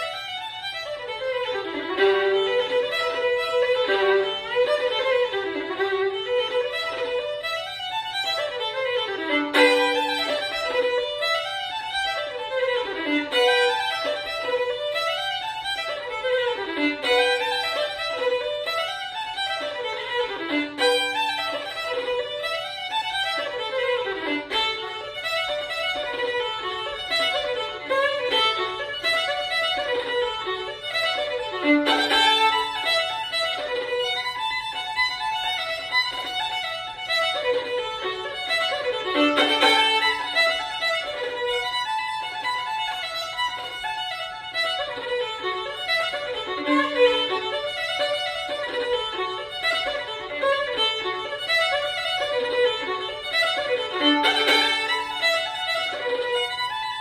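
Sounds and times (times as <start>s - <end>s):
solo fiddle playing a reel: 0.0s - 57.0s.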